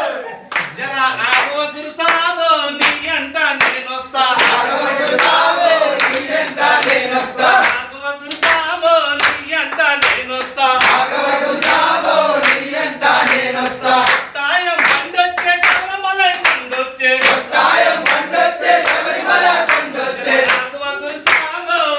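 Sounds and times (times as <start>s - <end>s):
men singing together: 0.0s - 21.9s
clapping in time: 0.5s - 3.8s, 4.4s - 21.6s.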